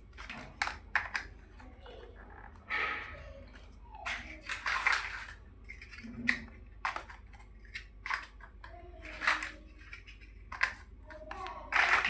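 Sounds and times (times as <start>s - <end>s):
plastic bricks clicking together: 0.0s - 2.6s, 4.0s - 12.0s.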